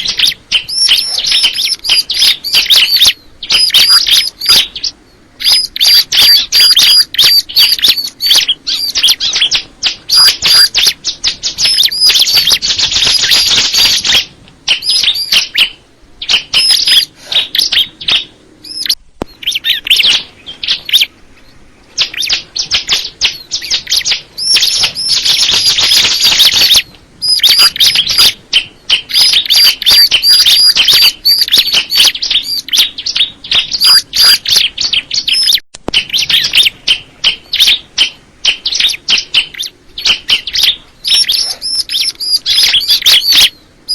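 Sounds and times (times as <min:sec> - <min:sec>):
bird singing high chirps and trills: 0:00.0 - 0:43.9.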